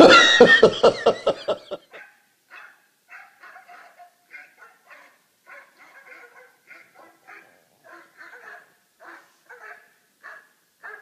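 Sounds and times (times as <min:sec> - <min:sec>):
dogs barking and yipping: 0:01.9 - 0:11.0.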